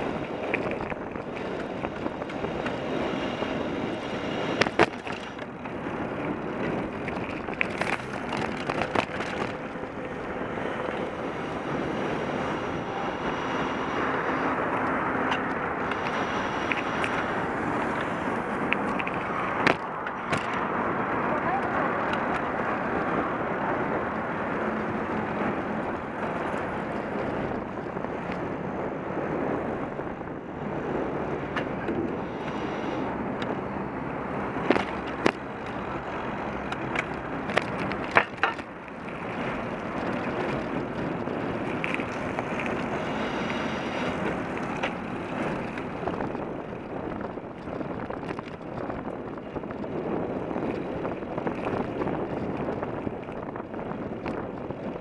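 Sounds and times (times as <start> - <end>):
bicycle knocking and rattling: 0.0 - 55.0
tyre and road noise: 0.0 - 55.0
wind on microphone: 0.0 - 55.0.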